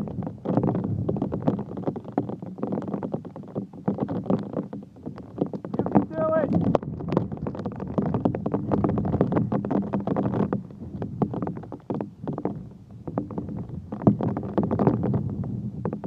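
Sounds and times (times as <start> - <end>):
strong wind buffeting microphone: 0.0 - 3.0, 4.4 - 16.0.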